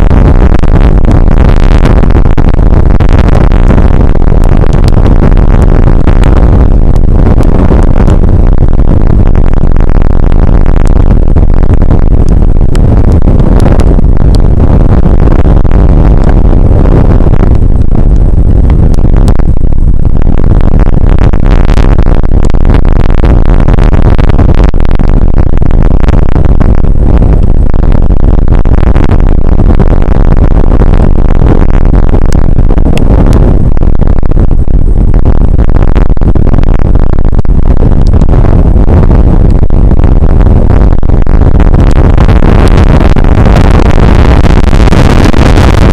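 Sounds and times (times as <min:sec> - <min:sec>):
rain rumble on microphone: 0:00.0 - 0:45.9.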